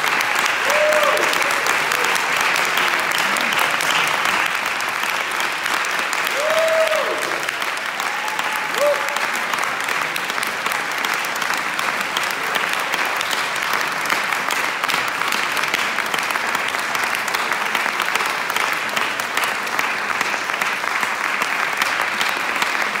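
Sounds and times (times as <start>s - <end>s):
audience applauding: 0.0s - 23.0s.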